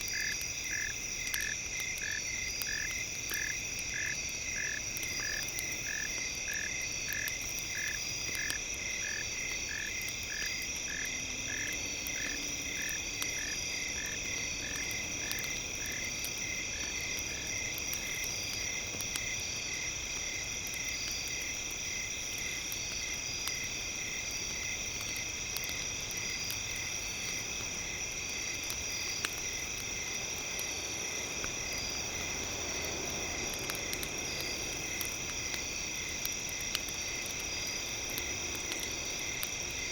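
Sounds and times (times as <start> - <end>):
campfire crackling: 0.0 - 39.9
chorus of frogs and insects: 0.0 - 39.9
insects droning: 0.0 - 39.9.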